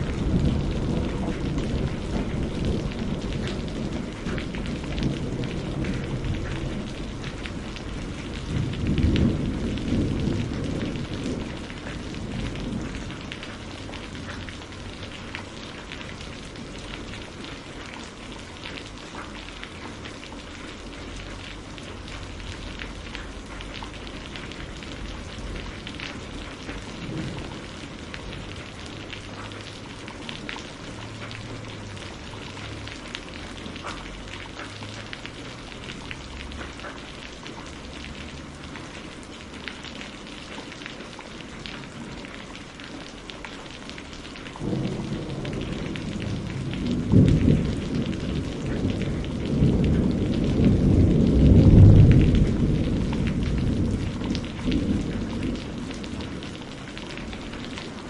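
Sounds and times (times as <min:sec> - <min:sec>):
thunder rumbling: 0:00.0 - 0:18.6, 0:20.6 - 0:42.4, 0:44.5 - 0:58.0
steady rain: 0:00.0 - 0:58.0.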